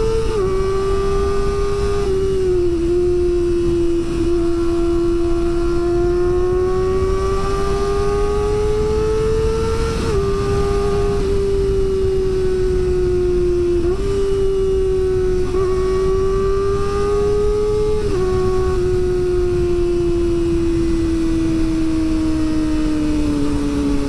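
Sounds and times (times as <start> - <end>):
low wind rush: 0.0 - 24.0
motorcycle engine at high revs: 0.0 - 24.0.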